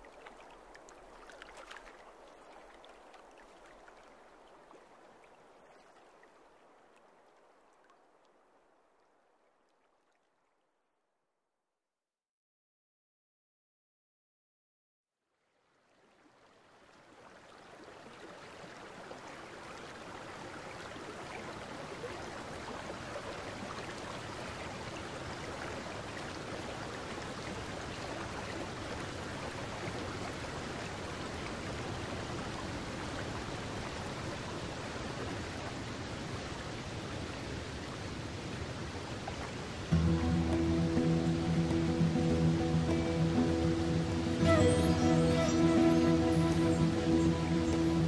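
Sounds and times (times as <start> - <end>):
rushing water: 0.0 - 10.5, 15.7 - 48.0.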